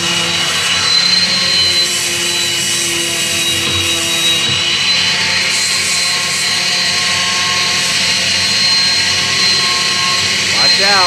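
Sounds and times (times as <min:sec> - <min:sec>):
orbital sander whining: 0:00.0 - 0:11.0.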